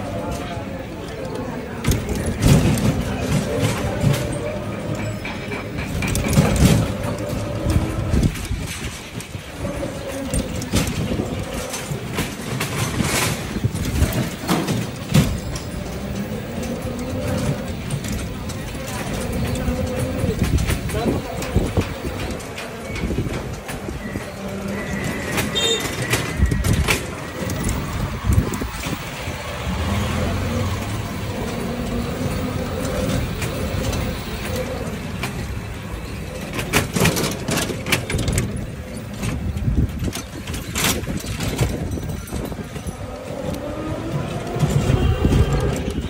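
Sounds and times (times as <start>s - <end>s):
background voices: 0.0s - 46.0s
vehicle noise: 0.0s - 46.0s
sharp knocks and rattles: 1.8s - 46.0s.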